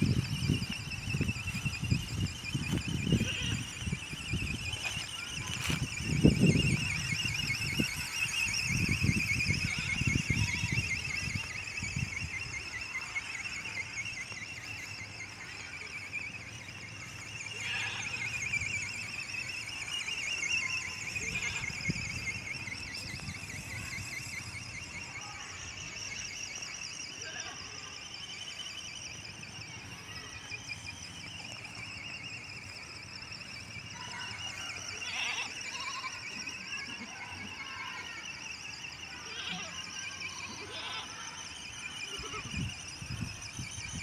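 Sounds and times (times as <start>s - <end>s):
small electric motor whine: 0.0s - 44.0s.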